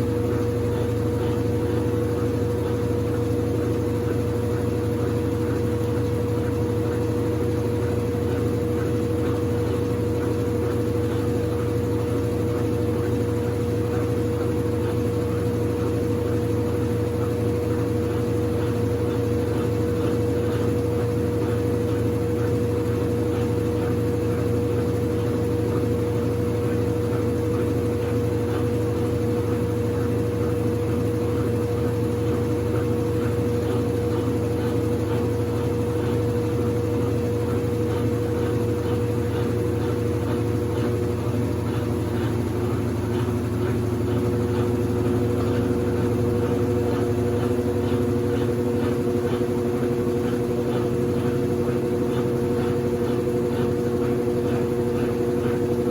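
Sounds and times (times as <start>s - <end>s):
washing machine motor humming: 0.0s - 55.9s.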